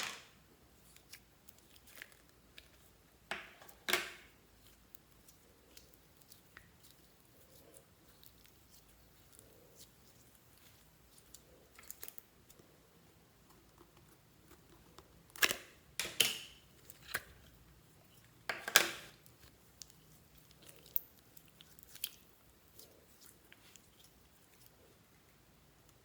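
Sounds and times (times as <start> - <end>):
slime squelching: 0.8 - 16.0, 19.2 - 25.1.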